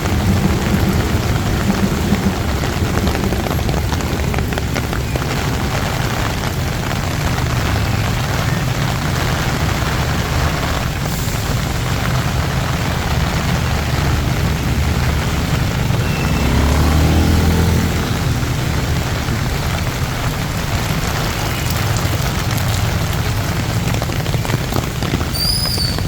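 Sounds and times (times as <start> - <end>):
vehicle engine passing close: 0.0 - 25.3
heavy rain pouring: 0.0 - 26.0
traffic passing on wet road: 0.0 - 26.0.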